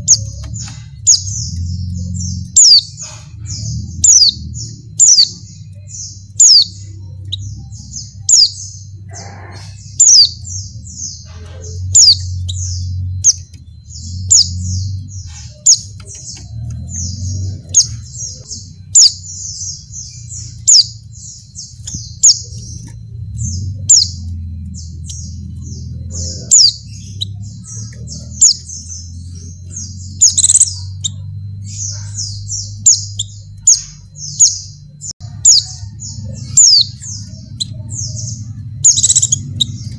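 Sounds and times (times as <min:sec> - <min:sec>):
bird rapid high chirps: 0:00.0 - 0:39.9
low background hum: 0:00.0 - 0:39.9.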